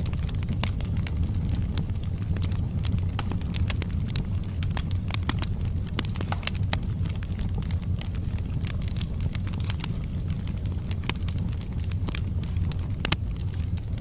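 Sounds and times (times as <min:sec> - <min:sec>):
fire crackles and pops: 0:00.0 - 0:14.0
low rumble of flames: 0:00.0 - 0:14.0.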